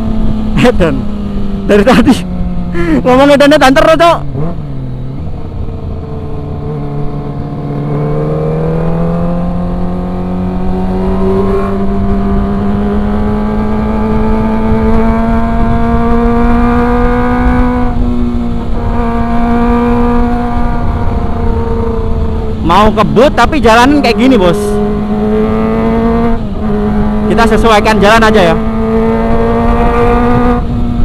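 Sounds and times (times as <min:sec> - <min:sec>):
motorcycle engine accelerating: 0:00.0 - 0:31.0
wind rumble on microphone: 0:04.6 - 0:31.0.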